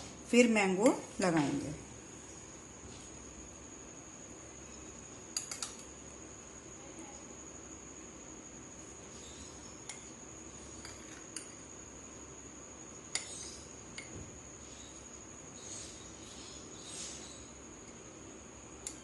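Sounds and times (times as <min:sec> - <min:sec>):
faint high-pitched whine: 0:00.0 - 0:19.0.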